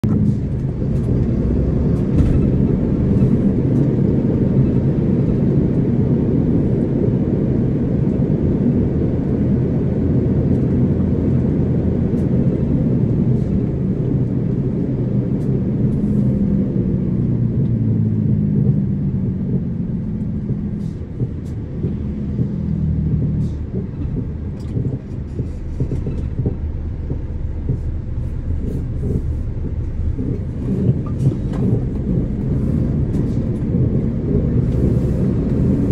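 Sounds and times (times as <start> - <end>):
vehicle engine and tyres rumbling: 0.0 - 35.9.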